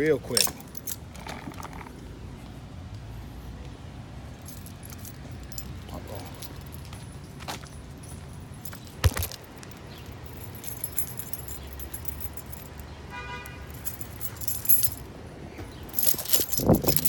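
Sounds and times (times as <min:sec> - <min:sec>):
metallic rattling and clinking: 0:00.2 - 0:02.0, 0:04.4 - 0:15.1, 0:15.8 - 0:17.0.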